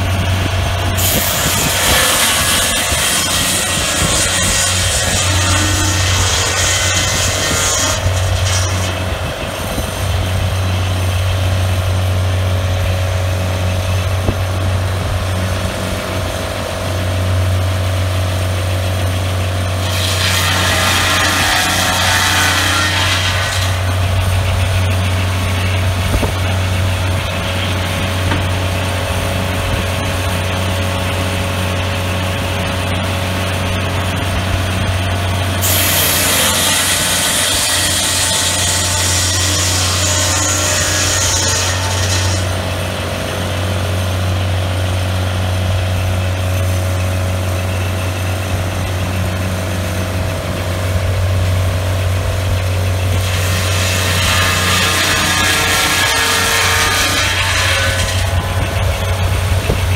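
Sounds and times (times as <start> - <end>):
sawmill engine running: 0.0 - 59.9
circular blade cutting log: 0.8 - 12.0, 15.4 - 46.9, 52.6 - 59.9.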